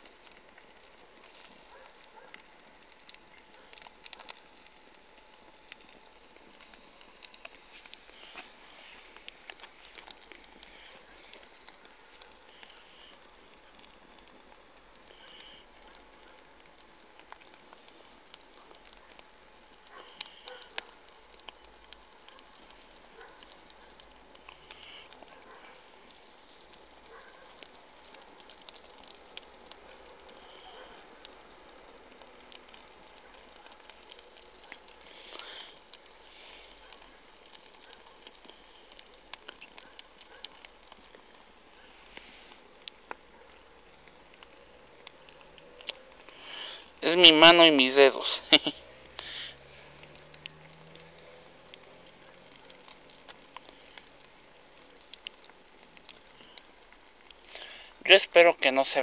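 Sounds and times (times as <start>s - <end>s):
campfire crackling and popping: 0.0s - 59.0s
soft steady hiss: 0.0s - 59.0s.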